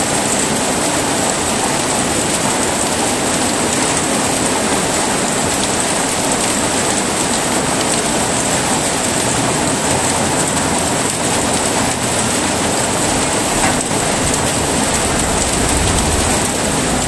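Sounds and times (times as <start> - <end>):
heavy rainfall: 0.0 - 17.0.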